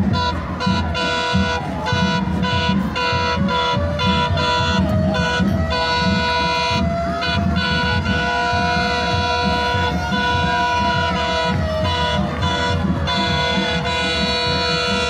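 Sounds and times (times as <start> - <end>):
locomotive air horn blasts: 0.0 - 15.0.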